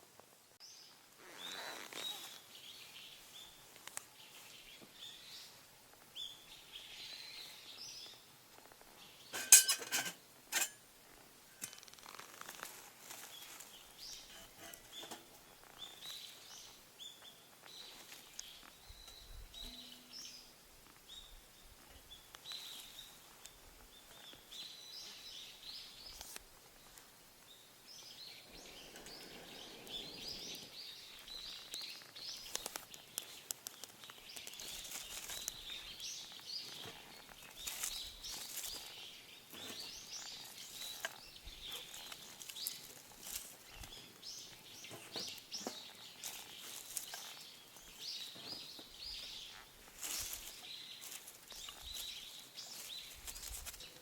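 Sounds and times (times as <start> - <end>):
small birds chirping: 0.6 - 9.9, 11.5 - 54.0.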